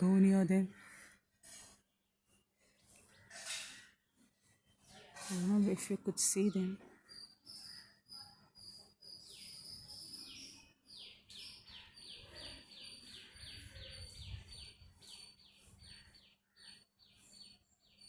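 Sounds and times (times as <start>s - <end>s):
birds chirping faintly: 0.0s - 18.0s.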